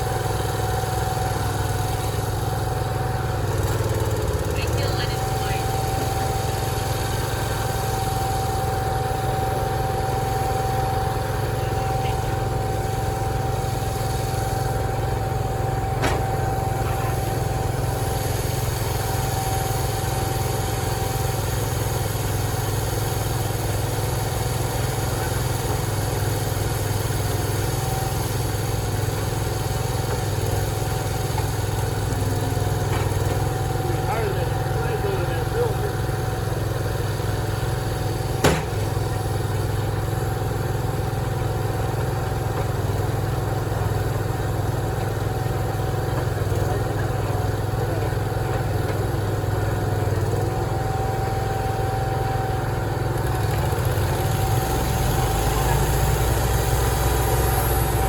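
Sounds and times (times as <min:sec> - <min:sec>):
high machine whine: 0:00.0 - 0:58.0
sawmill engine hum: 0:00.0 - 0:58.0.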